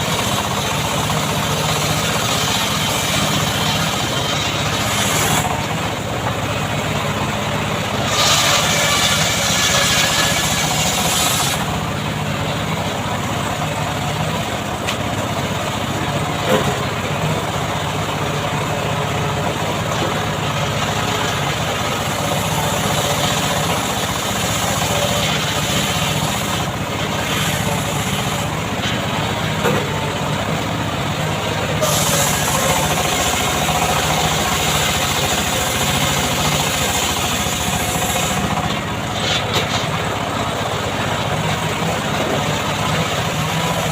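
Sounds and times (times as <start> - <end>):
chainsaw engine running: 0.0 - 43.9.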